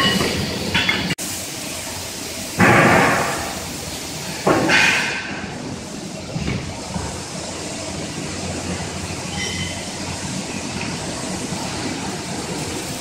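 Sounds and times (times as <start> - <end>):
workshop clatter and rumble: 0.0 - 13.0.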